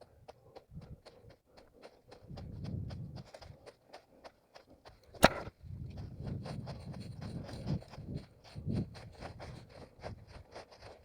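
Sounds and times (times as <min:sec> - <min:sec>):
running footsteps on forest ground: 0:00.0 - 0:11.0.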